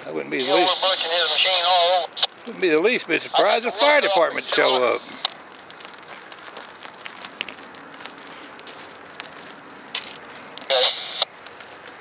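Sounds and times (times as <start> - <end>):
grass fire crackling: 0.0 - 12.0.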